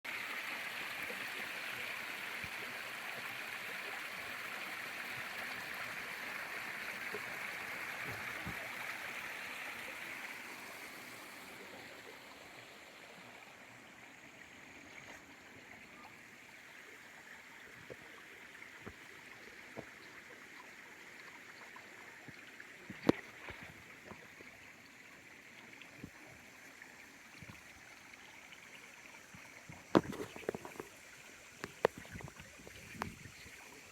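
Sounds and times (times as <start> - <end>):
water splashing and trickling: 0.0 - 33.9
small water drips: 0.6 - 33.9.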